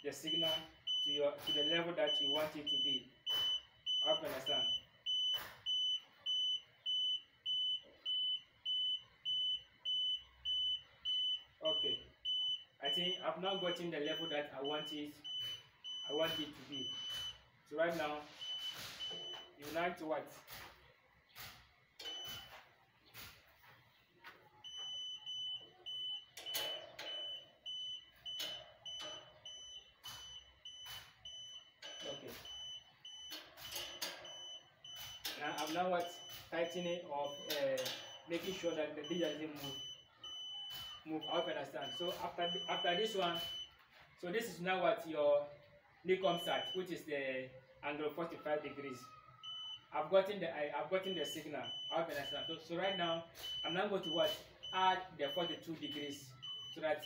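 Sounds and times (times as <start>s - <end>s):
meter beeping: 0.0s - 20.7s, 21.3s - 23.7s, 24.6s - 43.9s, 46.2s - 47.1s, 49.4s - 49.9s, 50.7s - 57.0s.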